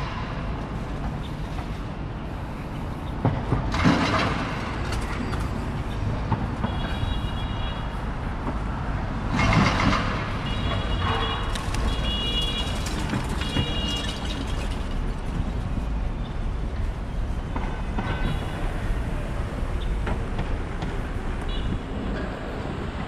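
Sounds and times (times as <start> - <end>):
street traffic: 0.0 - 23.0
vehicles passing close: 0.0 - 23.0.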